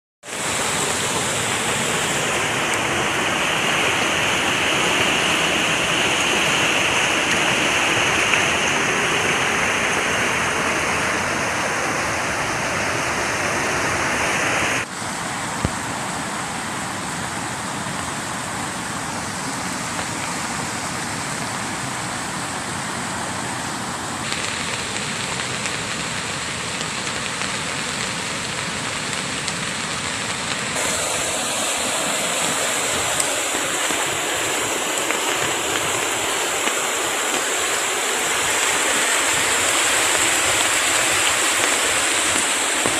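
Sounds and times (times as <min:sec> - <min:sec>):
stream water roaring: 0:00.2 - 0:42.9.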